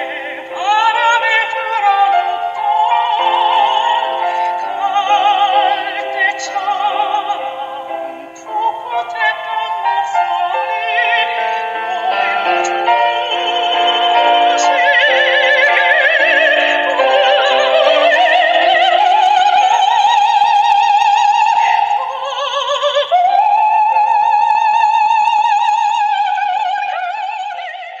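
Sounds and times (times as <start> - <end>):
instrumental accompaniment: 0.0 - 28.0
soprano singing with vibrato: 0.0 - 28.0.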